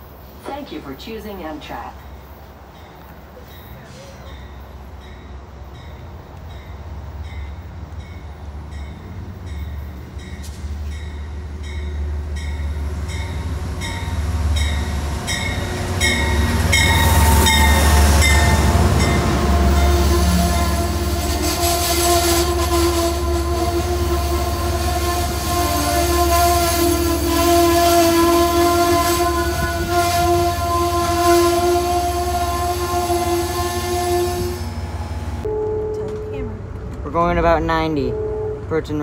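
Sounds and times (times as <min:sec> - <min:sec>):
train rolling with low rumble: 0:00.0 - 0:39.0.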